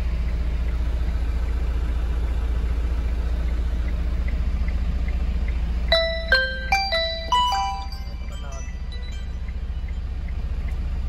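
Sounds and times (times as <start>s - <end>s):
faint regular ticking: 0.0s - 11.0s
truck engine rumbling: 0.0s - 11.0s.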